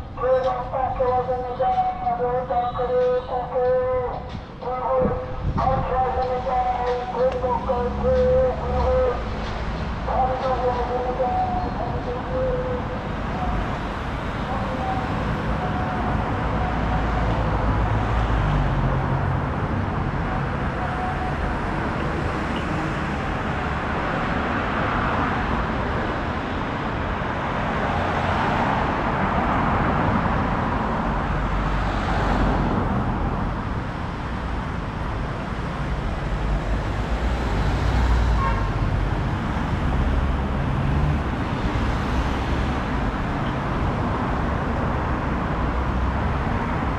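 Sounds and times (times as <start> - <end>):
traffic engine rumble: 0.0 - 46.9.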